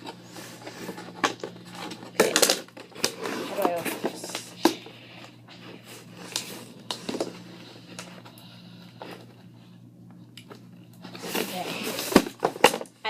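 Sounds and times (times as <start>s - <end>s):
packaging rustling: 0.0s - 9.5s, 10.5s - 13.0s
low steady hum: 0.0s - 13.0s.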